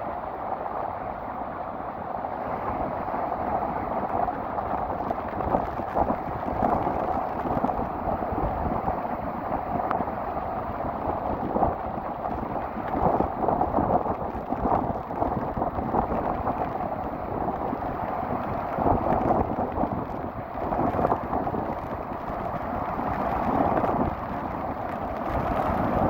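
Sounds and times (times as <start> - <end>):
rough sea waves: 0.0 - 26.0
wind gusting over microphone: 0.0 - 26.0.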